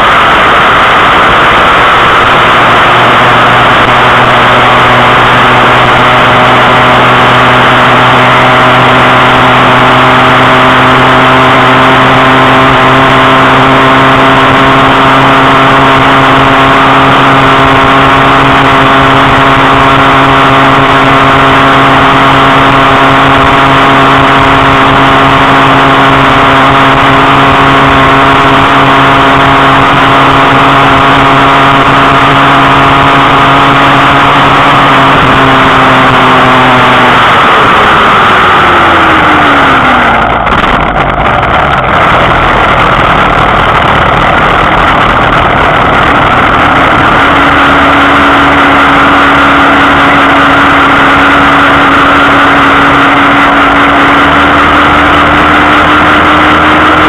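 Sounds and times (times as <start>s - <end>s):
vehicle motor droning at speed: 0.0s - 57.0s
wind and road noise: 0.0s - 57.0s.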